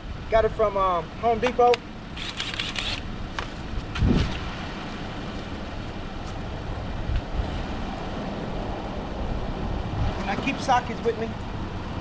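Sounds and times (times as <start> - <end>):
wind rumbling on microphone: 2.1 - 12.0.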